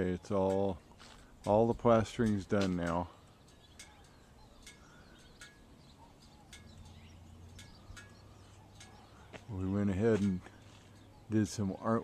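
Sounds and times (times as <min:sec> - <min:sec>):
high bird chirps: 0:02.1 - 0:12.0.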